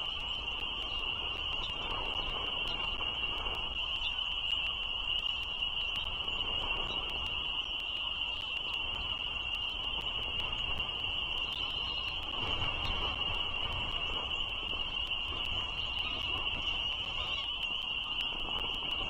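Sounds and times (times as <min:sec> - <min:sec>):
frog chorus trilling: 0:00.0 - 0:19.0.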